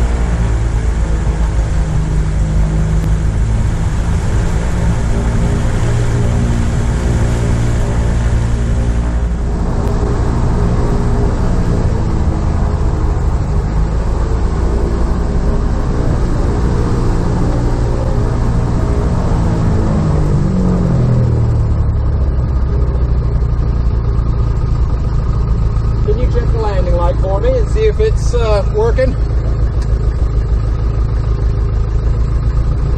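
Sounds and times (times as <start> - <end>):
plane engine and propeller: 0.0 - 32.9.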